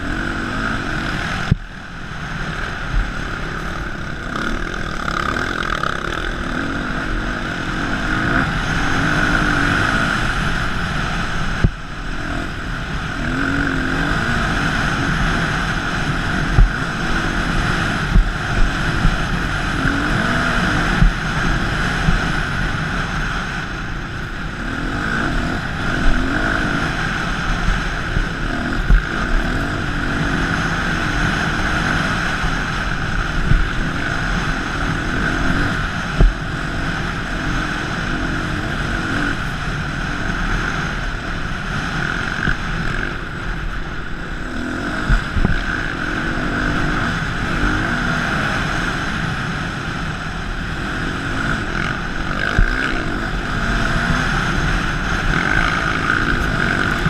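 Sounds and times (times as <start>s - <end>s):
dirt bike engine: 0.0s - 57.0s
wind rush on microphone: 0.0s - 57.0s.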